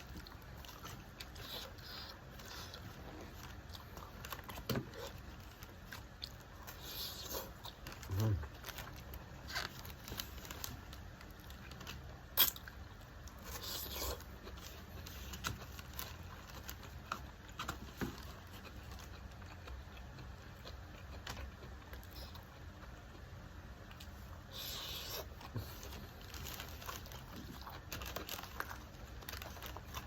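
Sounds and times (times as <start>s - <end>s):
person chewing: 0.0s - 30.0s.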